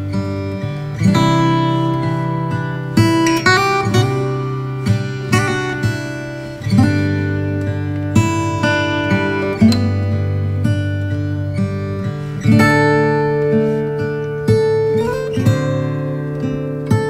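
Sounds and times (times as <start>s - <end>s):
plucked and strummed string chords: 0.0s - 17.0s.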